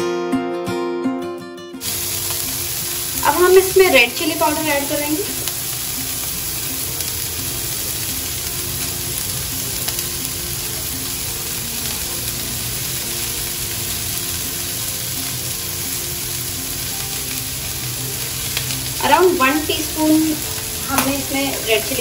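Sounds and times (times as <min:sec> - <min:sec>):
vegetables sizzling in a wok: 0:01.8 - 0:22.0.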